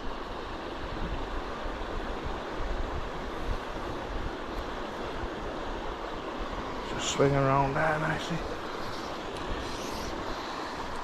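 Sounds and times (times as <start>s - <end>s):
river water rushing: 0.0s - 11.0s
wind rumble on microphone: 0.0s - 11.0s.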